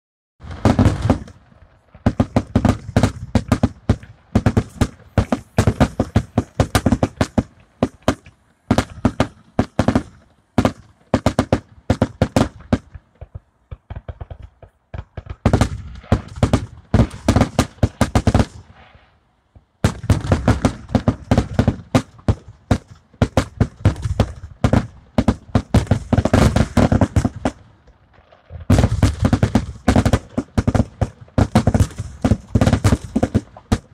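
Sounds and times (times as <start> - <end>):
fireworks booming and crackling: 0.4 - 33.9.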